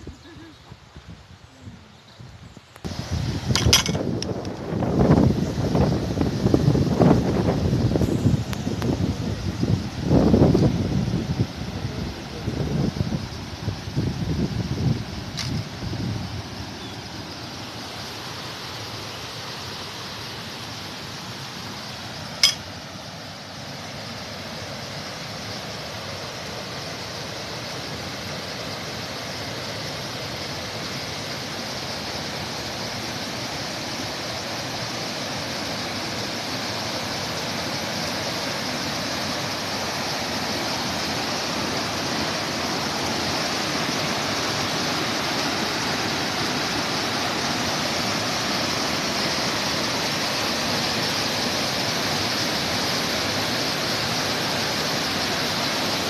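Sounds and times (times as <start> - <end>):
rushing water: 2.8 - 56.0.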